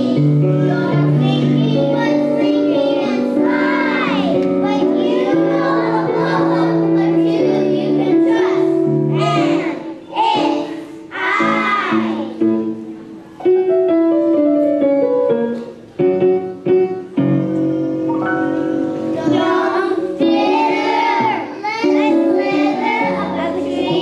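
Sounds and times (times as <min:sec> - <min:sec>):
children singing together: 0:00.0 - 0:13.0, 0:17.6 - 0:24.0
piano accompaniment: 0:00.0 - 0:24.0.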